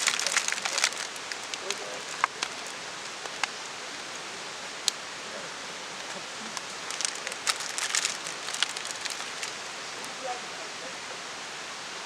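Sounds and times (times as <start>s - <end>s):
campfire crackling: 0.0s - 10.2s.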